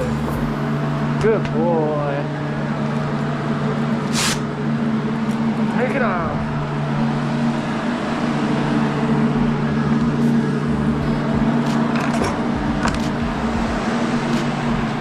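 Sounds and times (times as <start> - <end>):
barn fan humming: 0.0 - 15.0.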